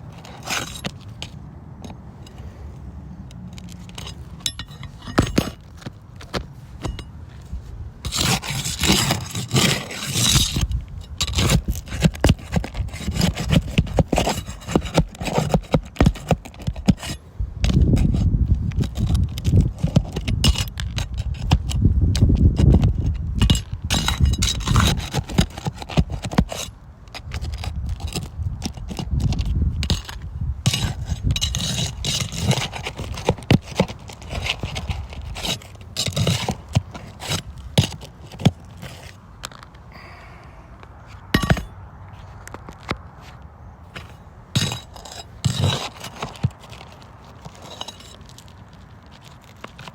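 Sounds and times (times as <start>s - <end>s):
scraping on roof shingles: 3.7s - 39.3s, 43.2s - 49.9s.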